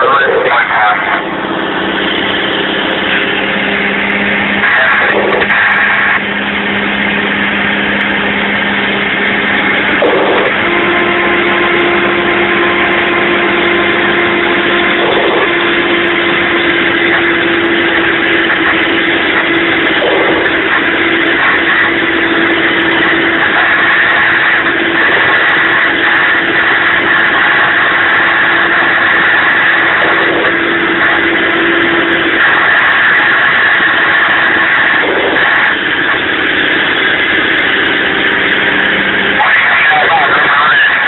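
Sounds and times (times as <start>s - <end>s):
truck diesel engine under load: 0.0s - 41.0s.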